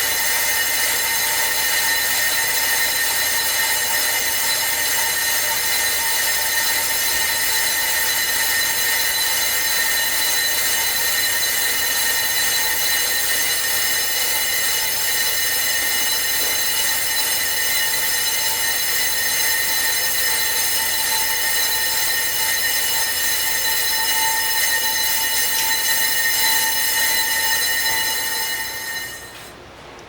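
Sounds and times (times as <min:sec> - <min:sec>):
high-pitched brake squeal: 0:00.0 - 0:29.6.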